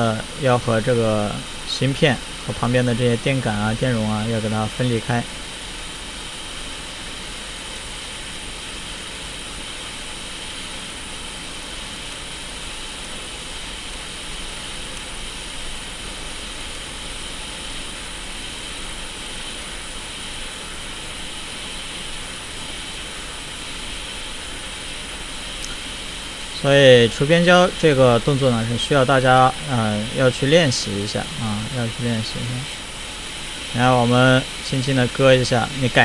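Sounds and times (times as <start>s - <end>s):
hot air blower hissing: 0.0s - 36.0s.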